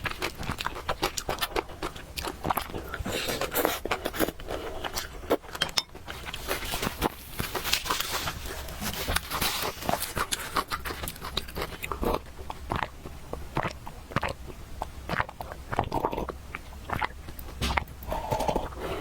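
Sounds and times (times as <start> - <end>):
person chewing noodles: 0.0 - 19.0.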